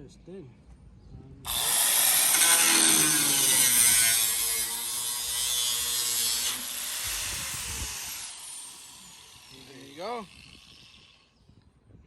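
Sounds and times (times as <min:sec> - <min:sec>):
angle grinder cutting sheet metal: 0:01.5 - 0:11.2.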